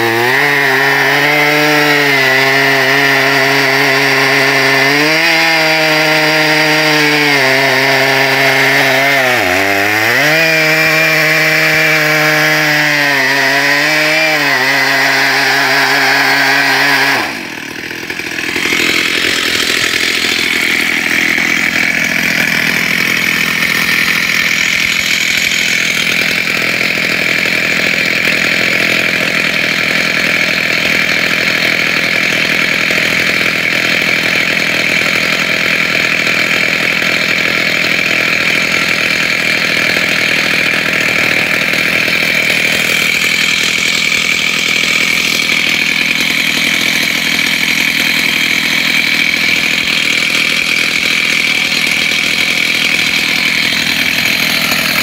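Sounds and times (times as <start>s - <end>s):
chainsaw cutting a log: 0.0s - 55.0s.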